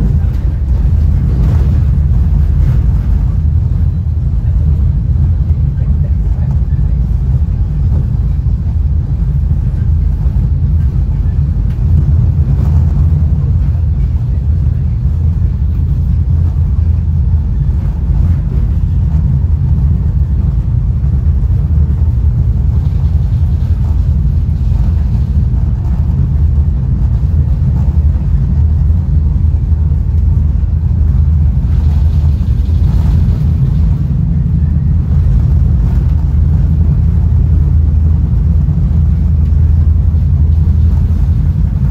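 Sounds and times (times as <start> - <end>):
train coach rumbling along track: 0.0 - 41.9.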